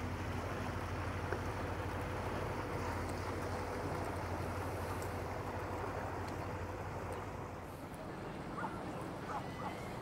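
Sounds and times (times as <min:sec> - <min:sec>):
motor boat engine humming: 0:00.0 - 0:10.0
water wash: 0:00.0 - 0:10.0.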